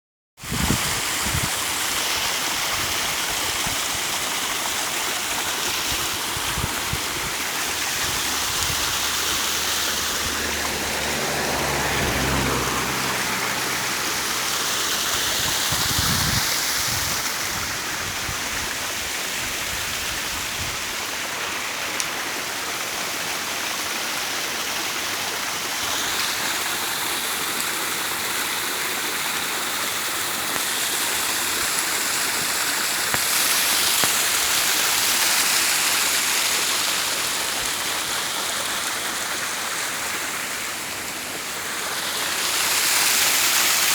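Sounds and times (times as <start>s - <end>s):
waterfall splashing and rushing: 0.4s - 43.9s.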